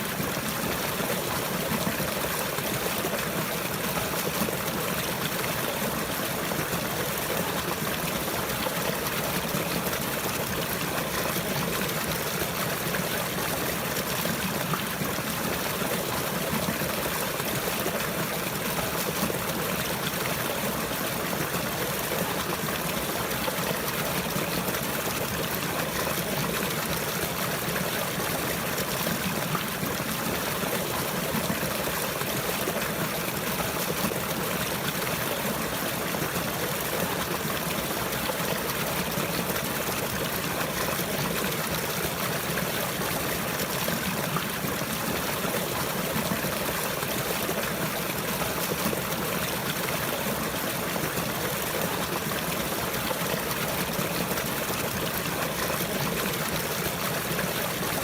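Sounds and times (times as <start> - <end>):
water flowing and trickling: 0.0 - 58.0.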